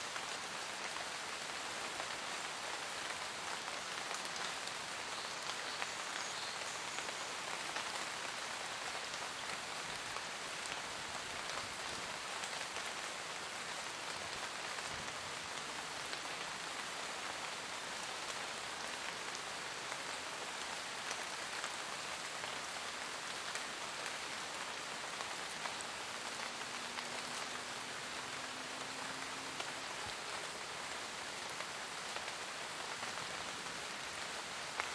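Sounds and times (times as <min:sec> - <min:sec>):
rain falling in a forest: 0:00.0 - 0:34.9.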